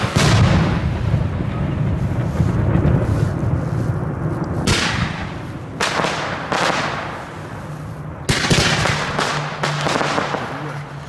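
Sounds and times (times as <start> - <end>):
fireworks bangs with hiss: 0.0 - 11.0.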